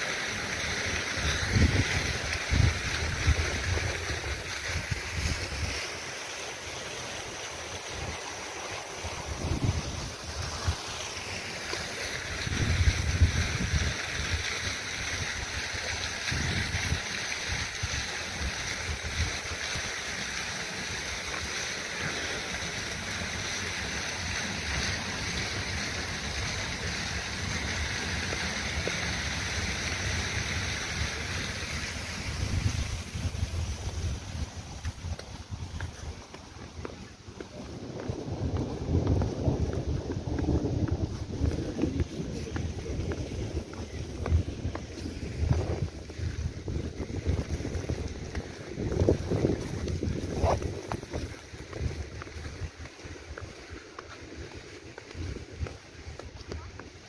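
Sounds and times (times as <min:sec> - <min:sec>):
wind hissing: 0:00.0 - 0:56.2
gusts buffeting microphone: 0:00.0 - 0:57.0.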